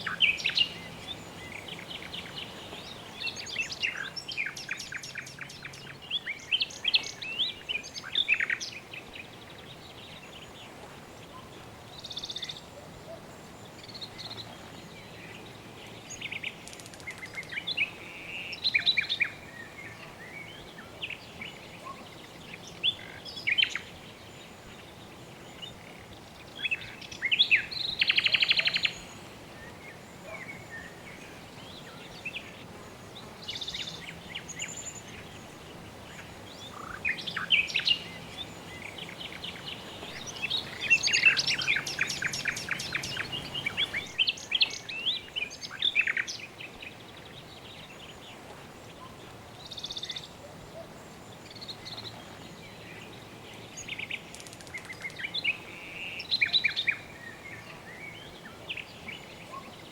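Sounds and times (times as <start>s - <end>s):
birds chirping: 0.0s - 59.9s
faint steady hiss: 0.0s - 59.9s.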